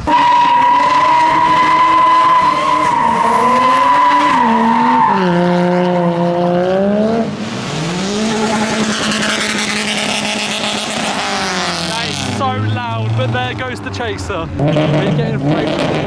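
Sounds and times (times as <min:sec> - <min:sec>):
tyres squealing: 0:00.0 - 0:05.8, 0:07.8 - 0:16.0
car engine revving loudly: 0:00.0 - 0:16.0.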